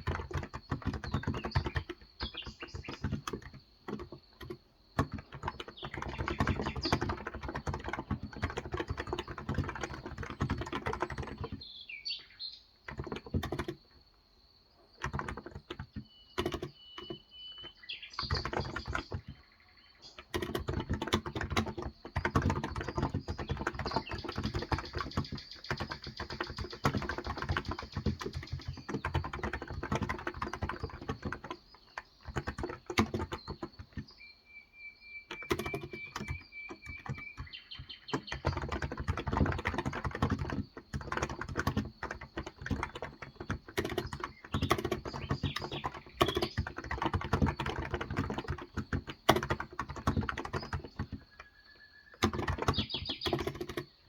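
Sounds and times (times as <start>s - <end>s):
fast keyboard typing: 0.0s - 11.8s, 12.8s - 14.0s, 14.9s - 34.2s, 35.3s - 54.0s
birds chirping: 0.0s - 54.0s.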